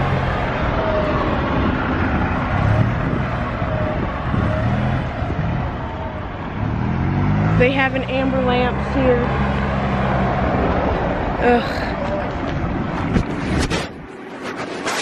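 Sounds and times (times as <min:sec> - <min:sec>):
motor vehicles passing: 0:00.0 - 0:15.0.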